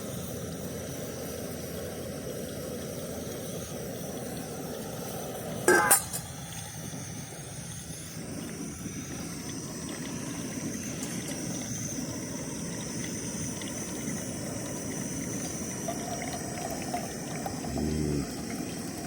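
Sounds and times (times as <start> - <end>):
camp stove rushing hiss: 0.0 - 19.0.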